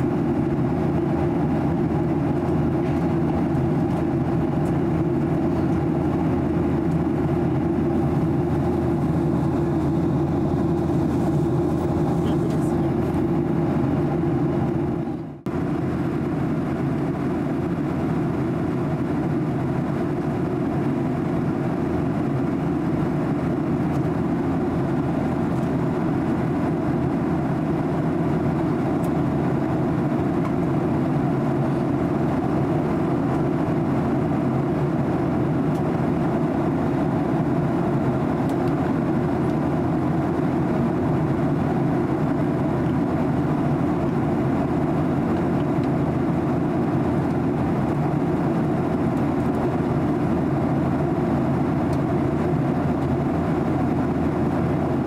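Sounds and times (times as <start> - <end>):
airplane cabin engine hum: 0.0 - 55.0.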